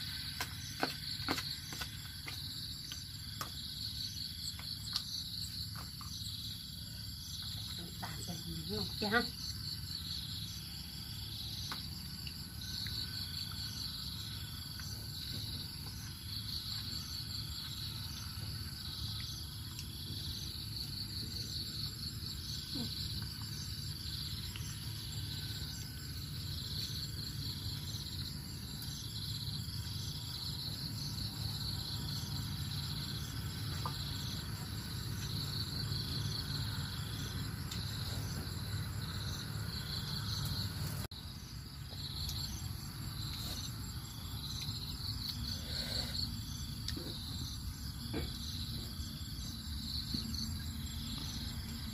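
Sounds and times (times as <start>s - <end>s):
insects pulsing chorus: 0.0s - 51.9s.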